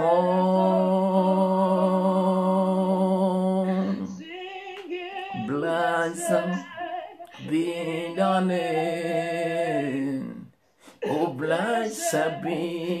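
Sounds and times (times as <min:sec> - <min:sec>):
person singing a worship chorus: 0:00.0 - 0:13.0.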